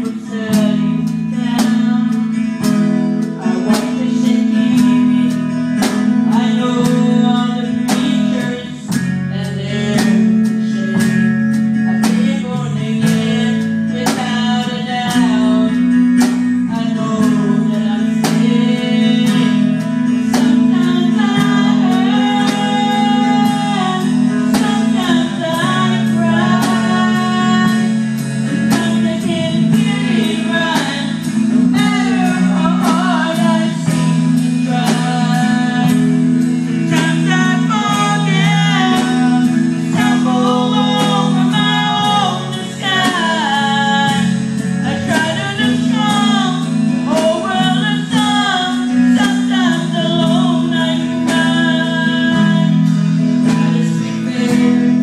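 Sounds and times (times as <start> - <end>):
drum kit beat: 0.0 - 55.0
strummed guitars: 0.0 - 55.0
woman singing: 0.0 - 55.0.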